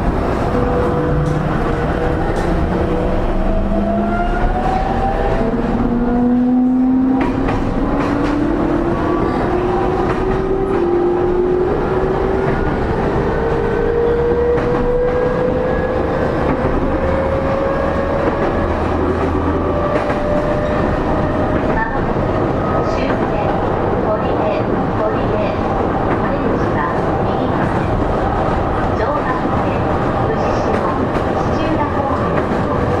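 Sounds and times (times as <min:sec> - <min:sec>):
wheels rumbling on rail: 0:00.0 - 0:33.0.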